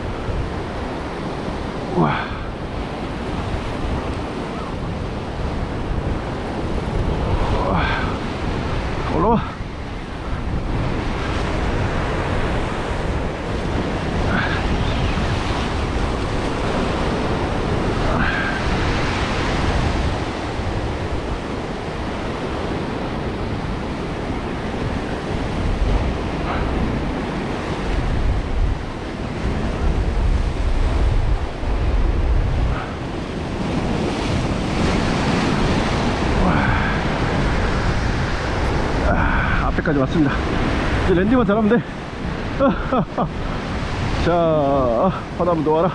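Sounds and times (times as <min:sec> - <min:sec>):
ocean surf breaking over rocks: 0:00.0 - 0:45.9
wind buffeting microphone: 0:00.0 - 0:45.9.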